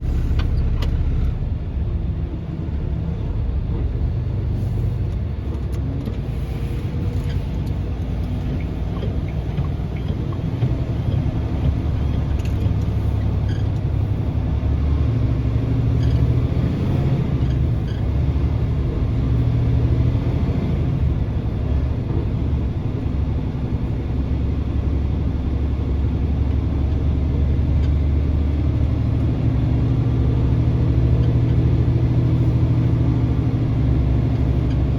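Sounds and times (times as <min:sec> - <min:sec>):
vehicle engine and road noise: 0:00.0 - 0:34.9.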